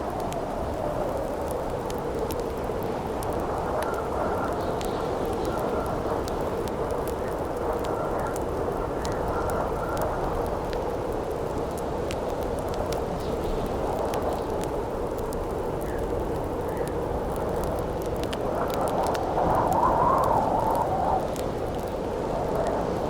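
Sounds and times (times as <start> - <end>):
campfire crackling and popping: 0.0 - 23.0
rushing wind: 0.0 - 23.0.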